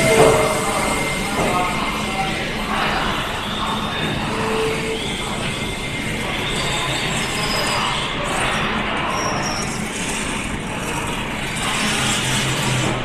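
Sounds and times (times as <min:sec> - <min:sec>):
train rumbling with low hum: 0:00.0 - 0:13.0.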